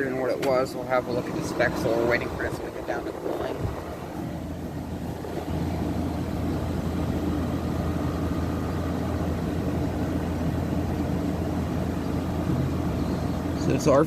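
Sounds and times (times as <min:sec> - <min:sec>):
air conditioner compressor hum: 0:00.0 - 0:14.0
fan blowing: 0:00.0 - 0:14.0.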